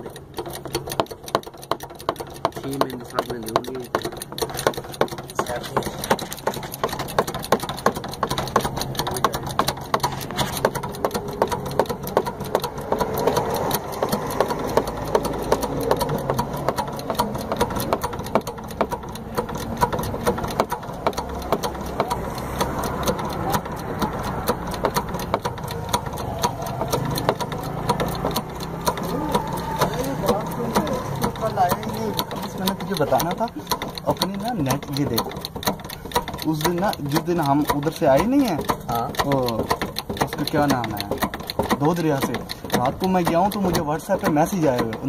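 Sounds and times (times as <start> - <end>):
hydraulic jack clicking and knocking: 0.0 - 45.0.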